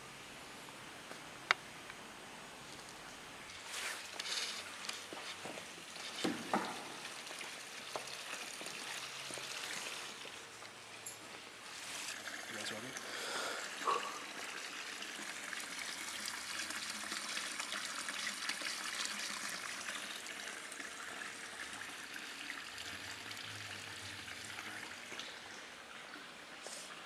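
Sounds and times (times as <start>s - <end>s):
water trickling in a font: 3.1s - 27.0s.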